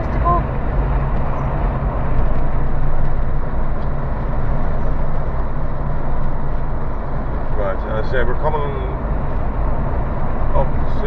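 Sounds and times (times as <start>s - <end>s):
road and engine noise in cabin: 0.0s - 11.0s.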